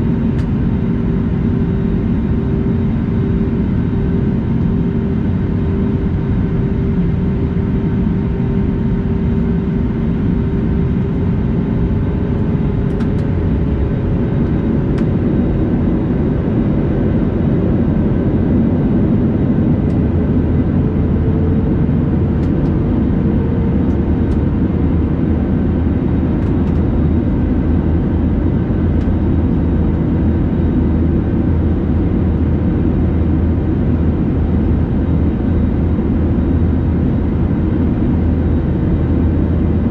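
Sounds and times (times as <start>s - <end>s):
aircraft engines rumbling: 0.0s - 39.9s.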